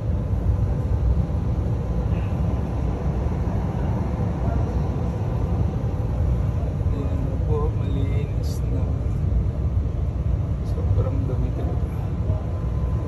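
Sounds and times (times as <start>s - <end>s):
low machine noise: 0.0s - 13.0s.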